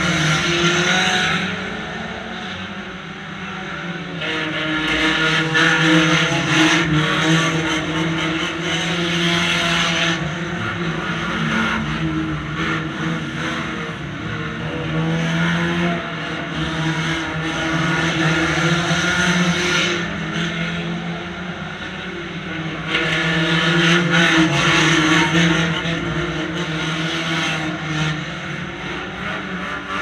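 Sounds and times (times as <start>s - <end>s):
car engines revving outside: 0.0s - 30.0s.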